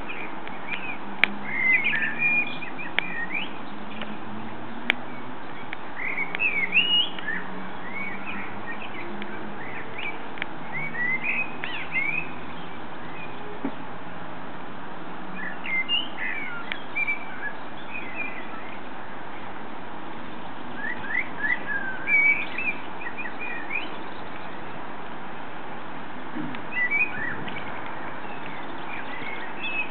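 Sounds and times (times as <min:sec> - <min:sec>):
blackbird singing: 0:00.0 - 0:13.8, 0:15.4 - 0:19.5, 0:20.2 - 0:24.8, 0:26.6 - 0:29.9.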